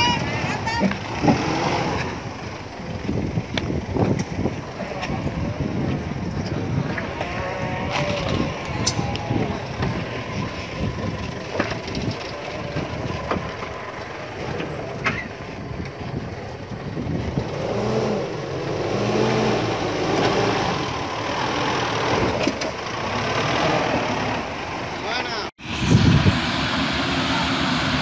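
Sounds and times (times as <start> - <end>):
pickup engine revving under load: 0.0 - 25.0.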